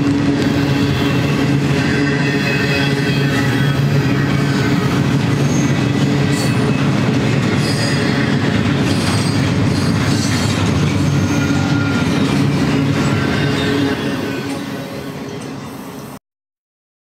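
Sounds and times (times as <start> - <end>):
freight train rumbling past: 0.0 - 16.2
high wheel squeals: 0.4 - 7.0, 7.6 - 16.1.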